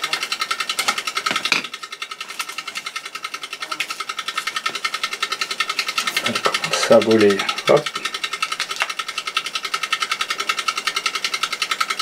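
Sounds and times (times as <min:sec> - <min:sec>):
small motor pulsing rattle: 0:00.0 - 0:12.0.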